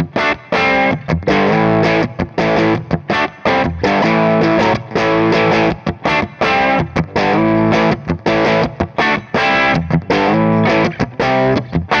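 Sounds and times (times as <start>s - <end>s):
distorted electric guitar chords: 0.0s - 12.0s.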